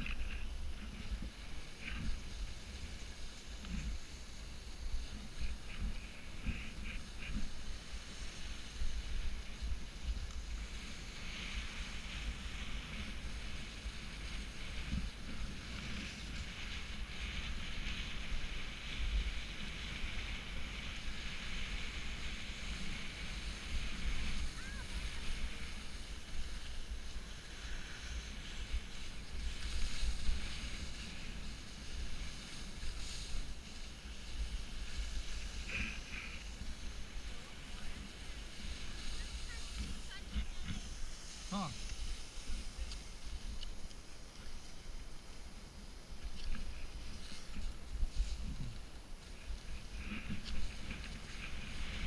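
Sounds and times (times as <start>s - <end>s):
skis scraping through slush: 0.0s - 52.0s.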